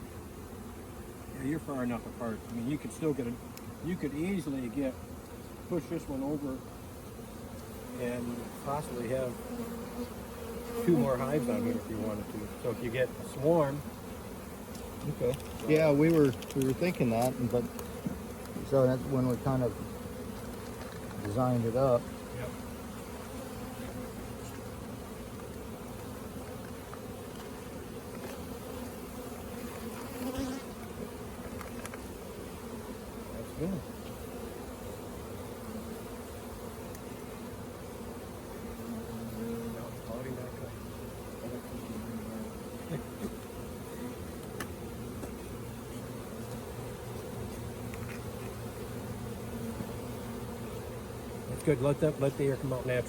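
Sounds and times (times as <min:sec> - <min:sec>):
bees buzzing: 0:00.0 - 0:53.0.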